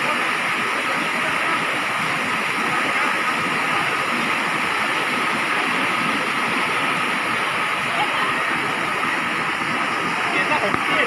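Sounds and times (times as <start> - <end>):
waterfall rushing: 0.0 - 11.0
whitewater churning over rocks: 0.0 - 11.0.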